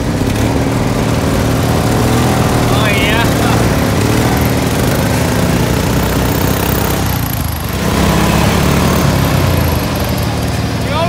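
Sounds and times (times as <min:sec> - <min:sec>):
small mower engine running: 0:00.0 - 0:11.0.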